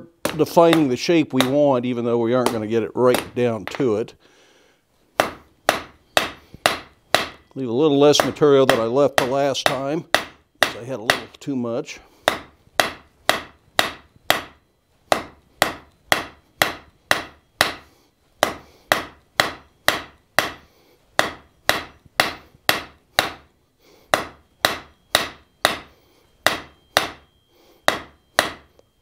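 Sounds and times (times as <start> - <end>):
hammer striking hot steel on anvil: 0.0 - 1.8, 2.4 - 3.8, 5.2 - 11.4, 12.2 - 29.0.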